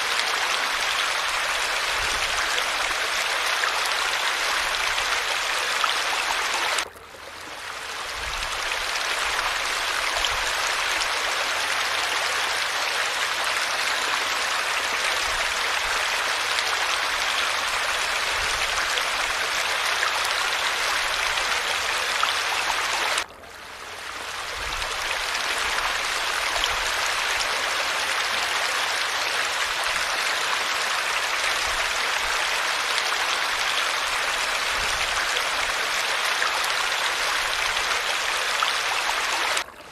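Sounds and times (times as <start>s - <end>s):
falling water rushing: 0.0s - 23.3s, 23.9s - 39.9s.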